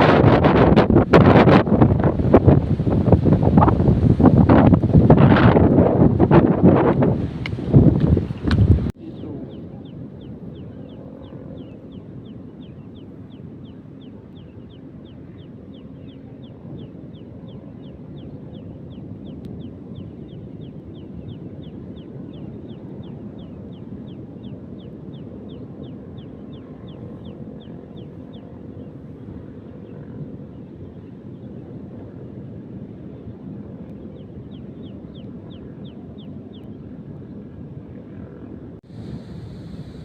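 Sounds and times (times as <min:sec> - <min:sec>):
low rumble of wind: 0:00.0 - 0:40.0
wind buffeting microphone: 0:00.0 - 0:40.0.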